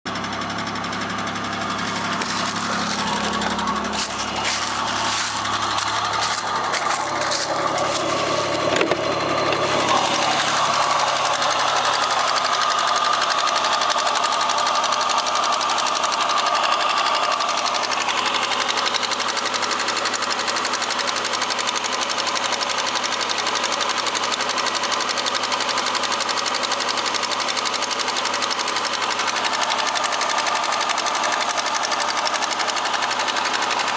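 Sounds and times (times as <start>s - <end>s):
car engine running: 0.1s - 33.9s
rapid knocking inside engine: 0.1s - 33.9s.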